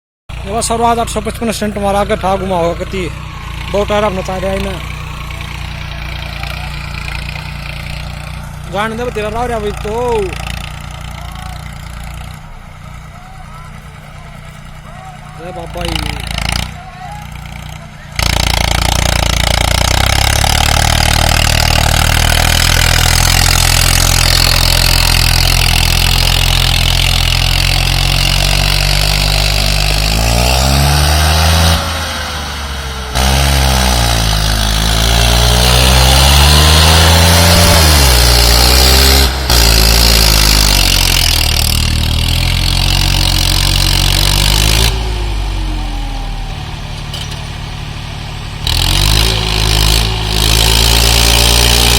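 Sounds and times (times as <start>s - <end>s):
tractor diesel engine revving: 0.3s - 51.9s.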